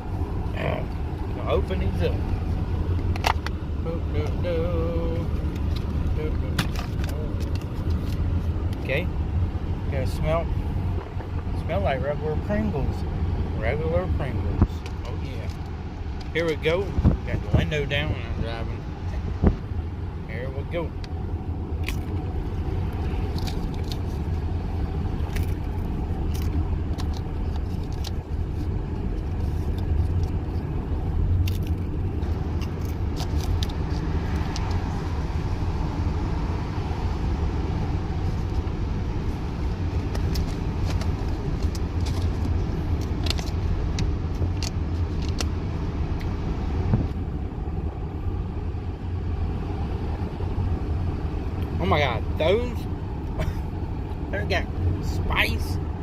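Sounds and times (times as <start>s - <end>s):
car road rumble: 0.0s - 56.0s
wind through car window: 0.0s - 56.0s.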